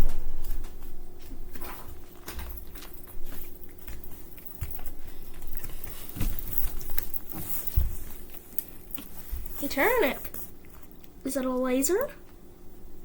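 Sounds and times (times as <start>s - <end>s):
cat chewing clicks and scuffs: 1.9s - 12.4s.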